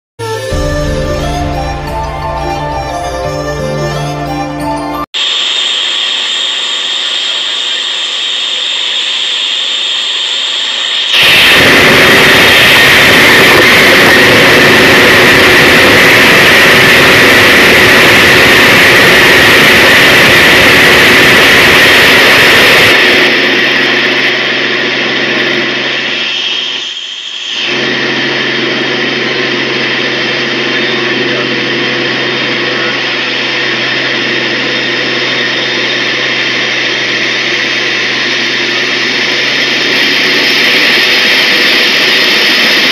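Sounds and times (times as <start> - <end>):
helicopter engine and rotor drone: 0.2 - 42.9.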